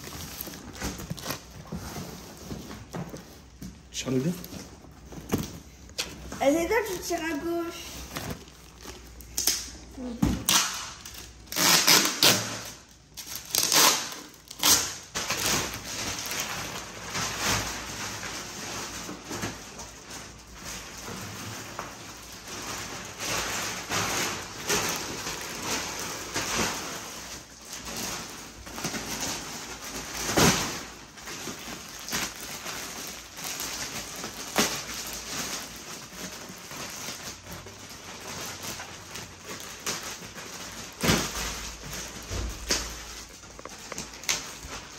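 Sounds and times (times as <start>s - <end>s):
plastic wrapping crackling: 0.0s - 44.9s.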